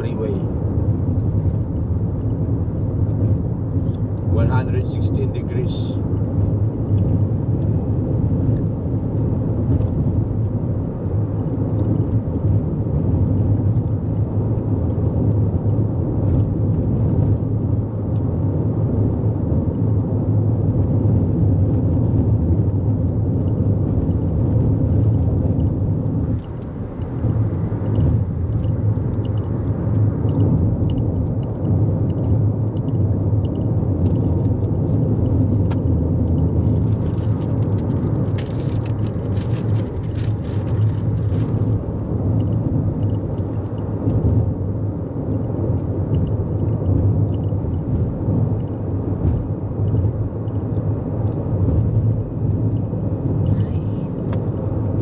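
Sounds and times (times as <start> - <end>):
car tyre and engine rumble: 0.0 - 55.0.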